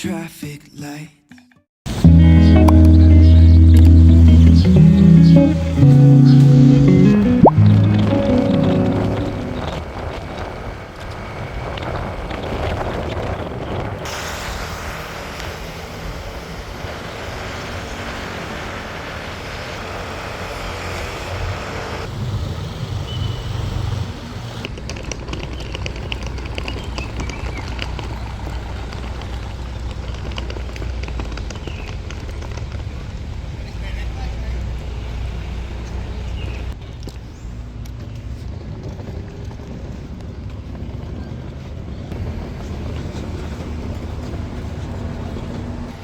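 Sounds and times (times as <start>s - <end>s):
vehicle rumble: 1.9s - 46.0s.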